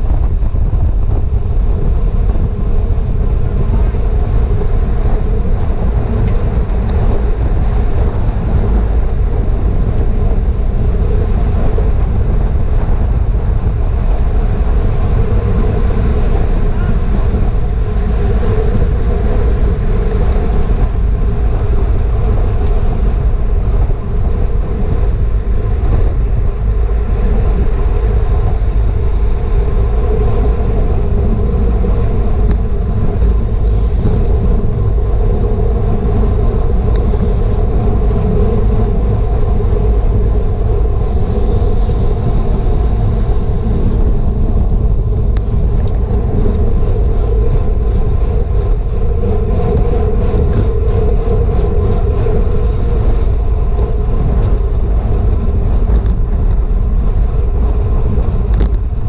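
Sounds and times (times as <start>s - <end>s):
steady drone: 0.0s - 59.0s
wind rumble on microphone: 0.0s - 59.0s.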